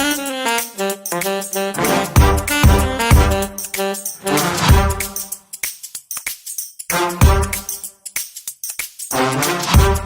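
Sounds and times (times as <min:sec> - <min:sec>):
percussion hits: 0:00.0 - 0:10.0.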